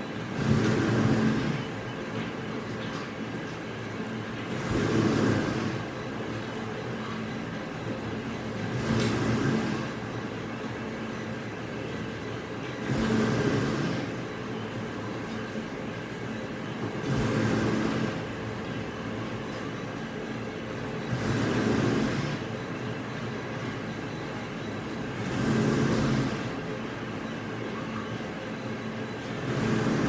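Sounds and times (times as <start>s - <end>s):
industrial machinery hum: 3.8s - 30.0s.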